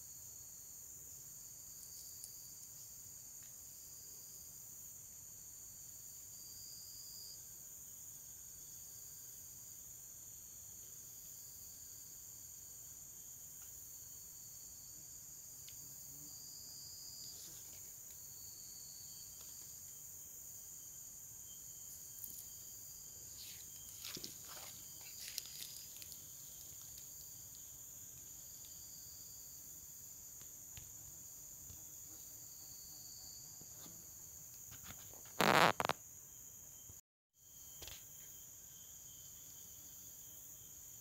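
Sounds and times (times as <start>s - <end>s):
crickets and insects chorus: 0.0s - 41.0s
lower insect call: 0.0s - 41.0s.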